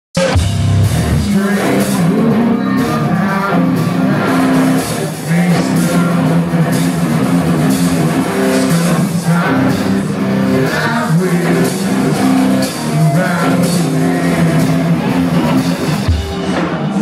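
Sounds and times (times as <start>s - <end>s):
distorted electric guitar riff: 0.1s - 17.0s
drums: 0.1s - 17.0s.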